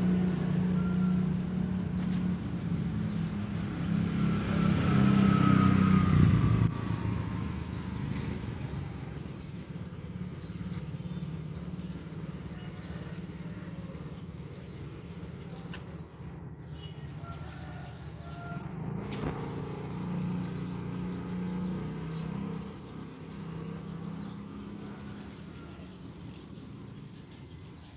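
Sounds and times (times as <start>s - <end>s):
motor vehicle passing by: 0.0s - 14.5s, 17.2s - 27.9s.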